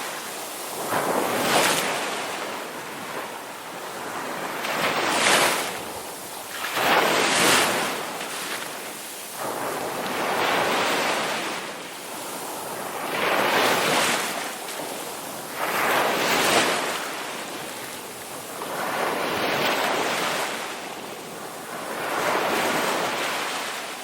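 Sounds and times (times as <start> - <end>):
ocean waves crashing: 0.0 - 24.0.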